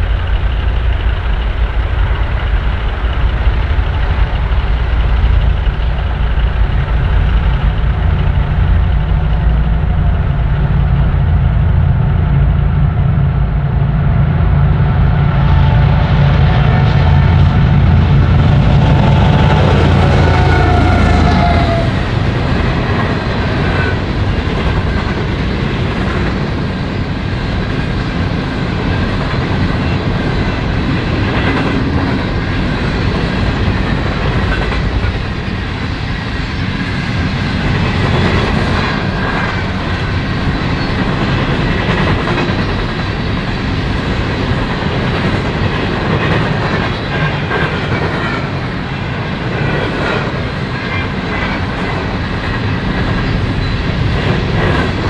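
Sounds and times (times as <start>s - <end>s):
wheels clickety-clack over rail joints: 0.0s - 13.6s, 16.5s - 55.0s
train wheels rumbling on rail: 0.0s - 55.0s.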